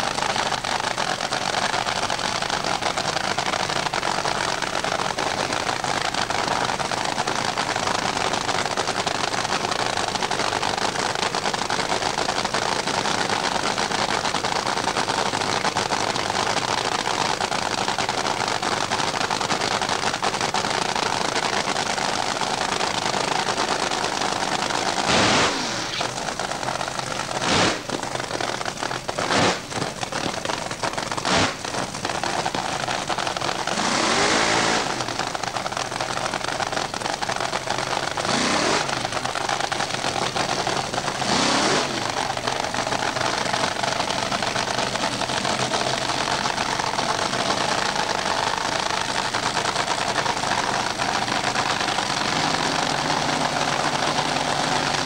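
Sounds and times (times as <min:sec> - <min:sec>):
drag racing engine revving: 0:00.0 - 0:55.0.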